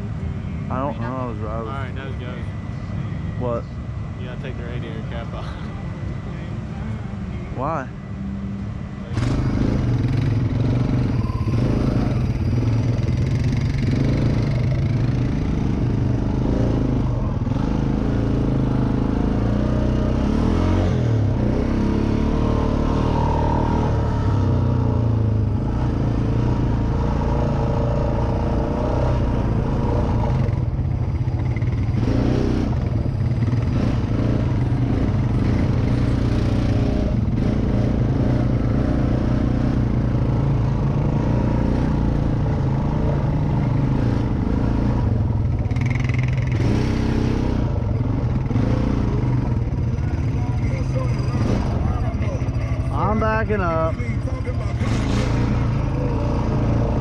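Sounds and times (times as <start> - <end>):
atv engine running: 7.6 - 57.0.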